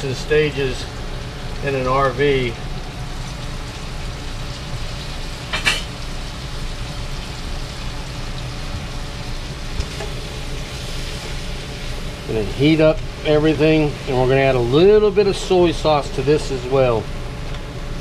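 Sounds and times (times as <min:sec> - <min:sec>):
rice sizzling in a wok: 0:00.0 - 0:18.0.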